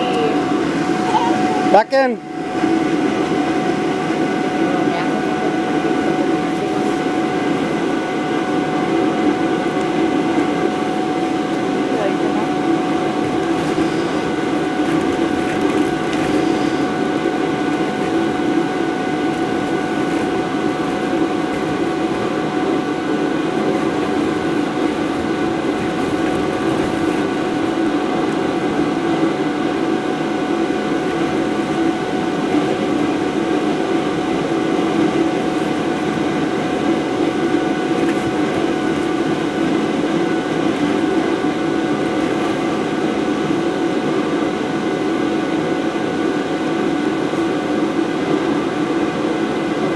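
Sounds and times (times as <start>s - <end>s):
electric blower fan running: 0.0s - 49.9s.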